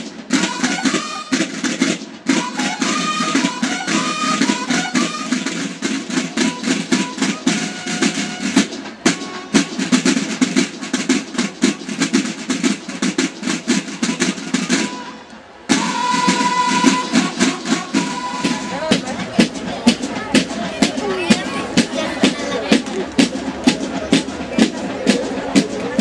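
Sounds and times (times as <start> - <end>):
bugle notes: 0.0 - 20.9
marching drums rapid cadence: 0.0 - 26.0.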